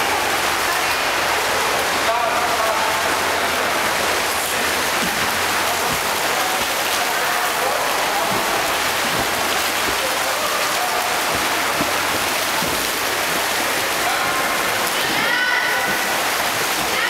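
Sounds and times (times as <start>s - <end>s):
swimmers splashing in a pool: 0.0s - 17.0s.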